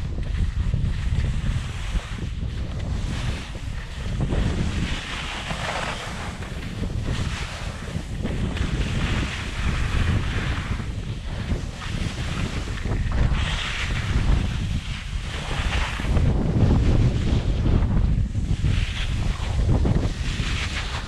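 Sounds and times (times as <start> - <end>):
wind buffeting microphone: 0.0 - 21.0
skis hissing over snow: 0.4 - 17.7, 18.3 - 21.0.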